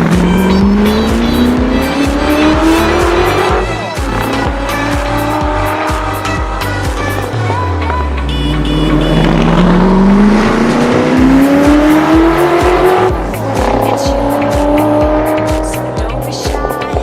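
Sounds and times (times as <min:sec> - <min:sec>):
race car engine accelerating: 0:00.0 - 0:16.4
background music with steady beat: 0:00.0 - 0:17.0.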